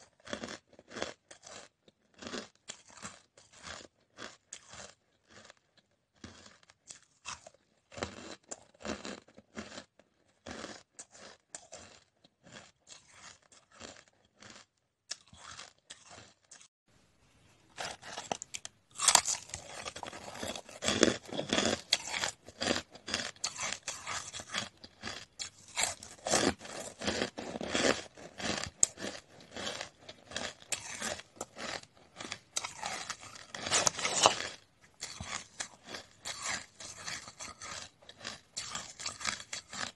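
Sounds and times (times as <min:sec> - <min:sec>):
ice crunching being chewed: 0:00.0 - 0:16.7, 0:17.7 - 0:39.9.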